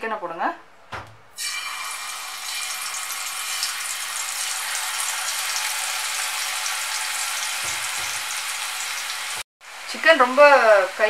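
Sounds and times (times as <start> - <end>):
chicken deep-frying in oil: 1.4 - 11.0.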